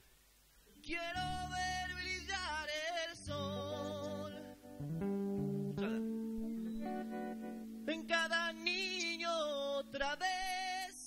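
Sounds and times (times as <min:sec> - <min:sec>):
person singing long notes: 0:00.8 - 0:11.0
bass notes: 0:01.1 - 0:10.0
electric guitar: 0:01.2 - 0:11.0.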